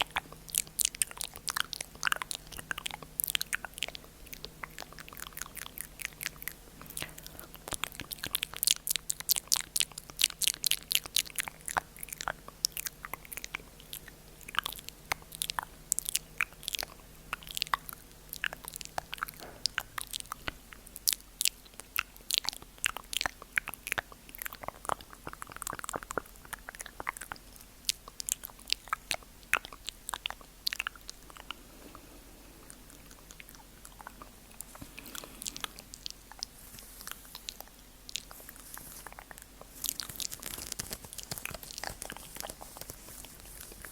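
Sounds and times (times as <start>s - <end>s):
wet mouth clicks and smacks: 0.0s - 32.0s, 32.6s - 43.9s.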